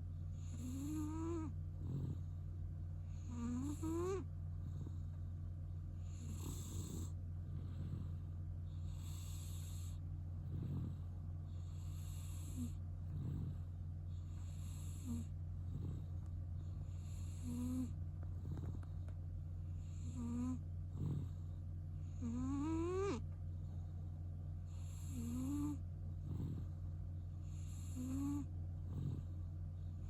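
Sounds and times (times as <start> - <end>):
cat snoring: 0.3 - 2.4, 3.0 - 5.2, 6.0 - 19.1, 19.7 - 23.9, 24.7 - 26.8, 27.4 - 29.4.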